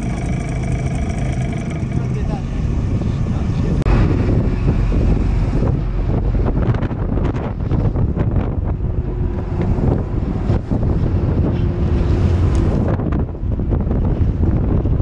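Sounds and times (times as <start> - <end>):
boat engine drone: 0.0 - 12.9
wind buffeting microphone: 0.0 - 15.0.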